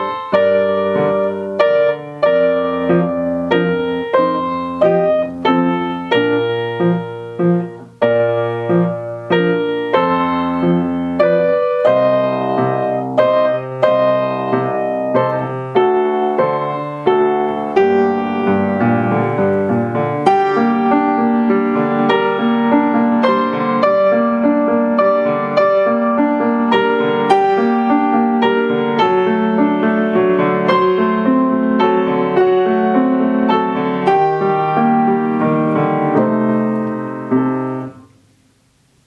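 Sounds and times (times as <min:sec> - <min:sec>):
grand piano playing: 0:00.0 - 0:39.0.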